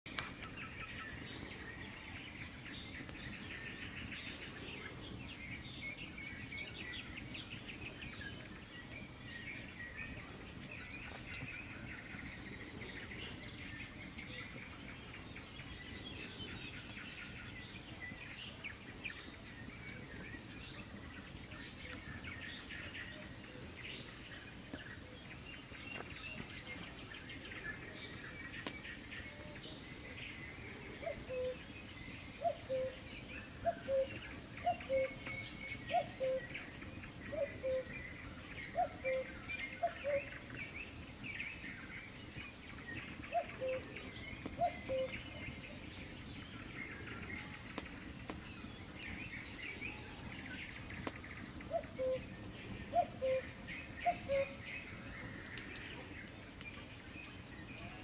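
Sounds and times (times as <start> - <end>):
songbirds chirping and trilling: 0.1 - 58.0.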